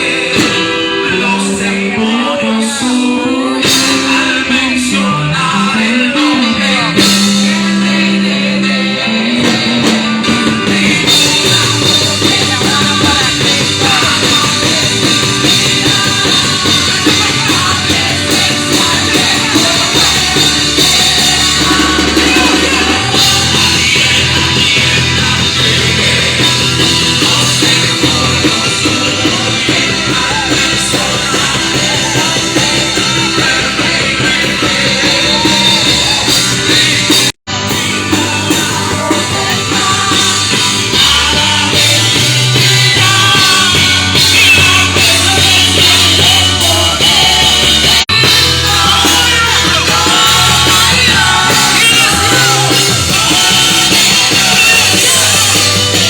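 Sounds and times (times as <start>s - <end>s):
drum kit with cymbals: 0.0s - 1.9s, 2.6s - 56.0s
people singing: 0.0s - 56.0s
rock band playing: 0.0s - 56.0s.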